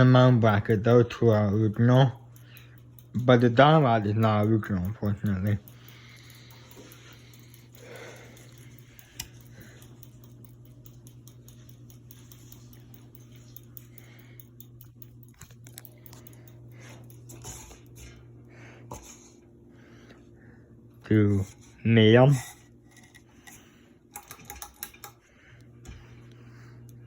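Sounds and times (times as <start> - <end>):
ceiling fan motor humming: 0.0 - 27.0.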